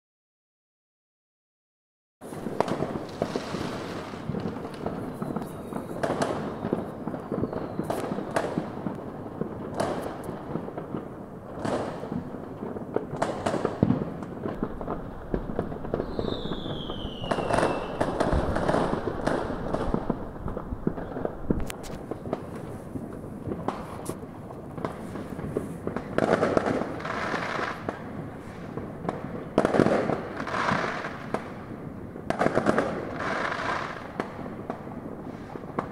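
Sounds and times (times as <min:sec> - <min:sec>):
firework bangs: 0:02.2 - 0:35.9
fireworks crackling and popping: 0:02.2 - 0:35.9
whistling firework: 0:02.2 - 0:35.9.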